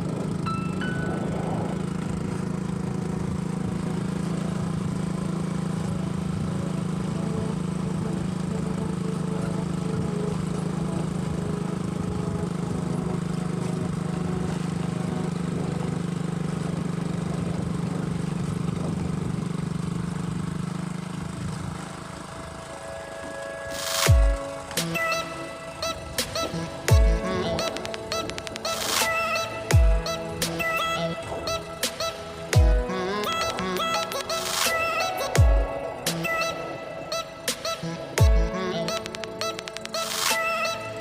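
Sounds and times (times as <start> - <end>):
engine humming steadily: 0.0 - 41.0.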